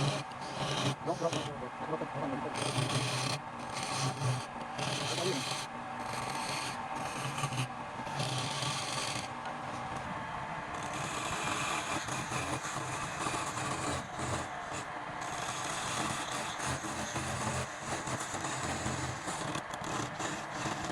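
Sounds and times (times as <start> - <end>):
wood lathe running: 0.0 - 10.1, 10.7 - 20.9
tool scraping spinning wood: 0.0 - 20.9.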